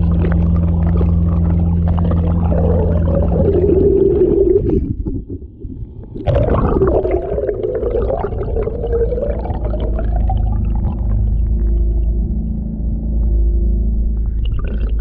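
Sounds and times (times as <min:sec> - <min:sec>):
outboard motor heard underwater: 0:00.0 - 0:15.0.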